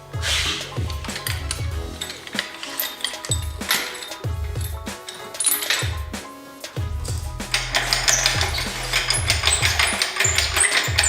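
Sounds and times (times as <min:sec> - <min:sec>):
music with kick drums and hi-hats: 0:00.0 - 0:11.0.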